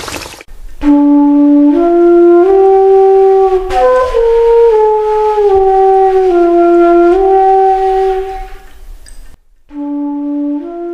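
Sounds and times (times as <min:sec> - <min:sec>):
slow melody of held notes: 0:00.5 - 0:08.9, 0:09.6 - 0:10.9.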